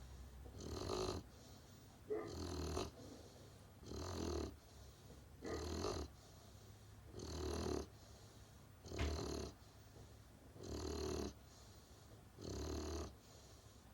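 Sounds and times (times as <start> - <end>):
puppy snoring: 0.0 - 6.4, 7.1 - 9.8, 10.5 - 13.8.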